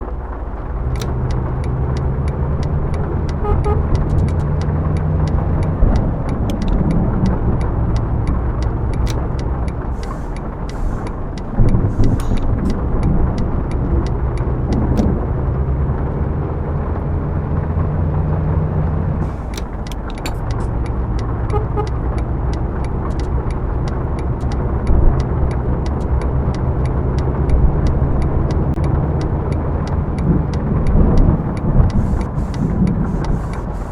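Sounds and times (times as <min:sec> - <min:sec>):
sharp ticks and rattles: 0:00.0 - 0:16.2, 0:19.2 - 0:33.9
diesel engine running: 0:00.0 - 0:33.9.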